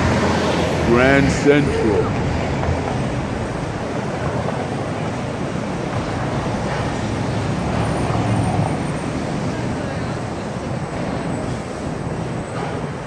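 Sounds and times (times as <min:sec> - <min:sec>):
city street traffic roar: 0:00.0 - 0:13.0.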